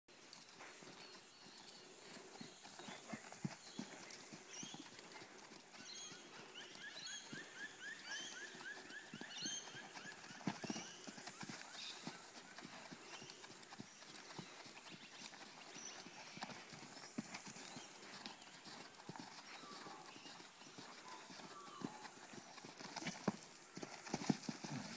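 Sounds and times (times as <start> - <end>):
hoofbeats on sand: 0.3 - 24.9.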